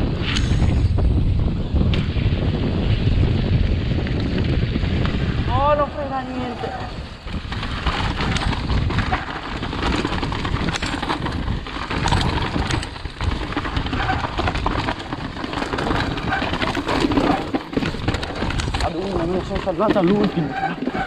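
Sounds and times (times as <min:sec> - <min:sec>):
bike rattling and clicking: 0:00.0 - 0:21.0
wind on microphone: 0:00.0 - 0:21.0
tyres on dirt and stones: 0:03.8 - 0:21.0.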